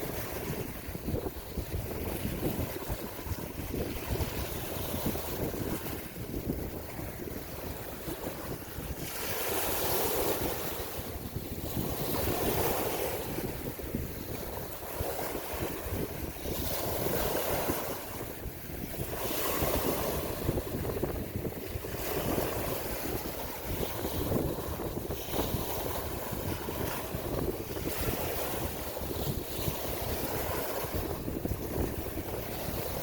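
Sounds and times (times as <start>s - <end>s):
sea waves washing in: 0.0s - 33.0s
wind buffeting microphone: 0.0s - 33.0s.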